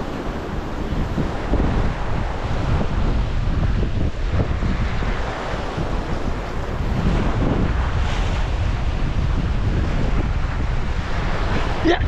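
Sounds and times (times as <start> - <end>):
surf washing around rocks: 0.0 - 12.0
wind buffeting microphone: 0.0 - 12.0.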